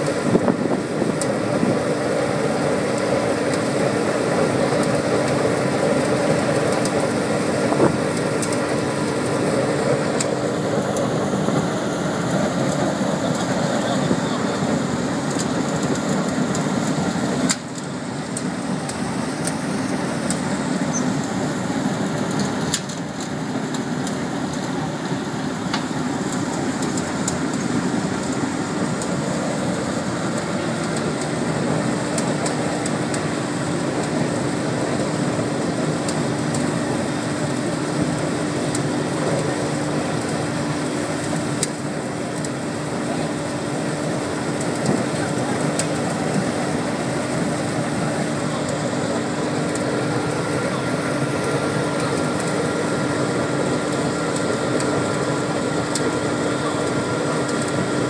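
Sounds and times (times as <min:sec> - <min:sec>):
burner flame roaring: 0:00.0 - 0:58.0.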